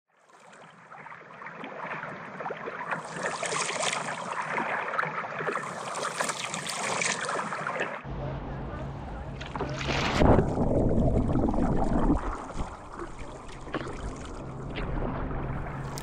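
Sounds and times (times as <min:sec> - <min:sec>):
moving water splashing and bubbling: 0:00.1 - 0:08.1, 0:09.3 - 0:16.0.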